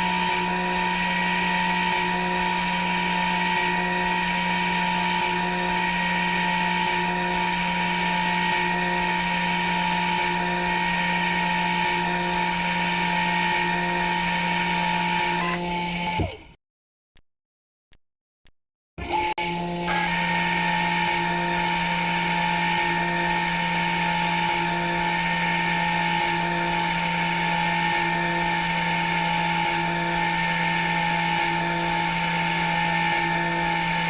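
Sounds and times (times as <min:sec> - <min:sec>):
spindle motor whining: 0:00.0 - 0:16.6, 0:19.0 - 0:34.0.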